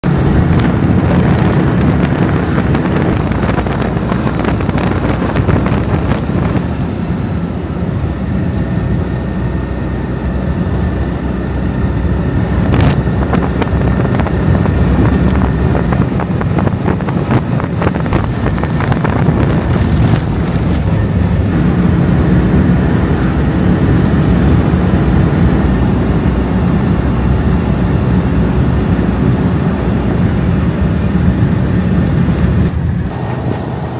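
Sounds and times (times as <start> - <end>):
car engine running: 0.0 - 33.9
road and wind noise: 0.0 - 33.9.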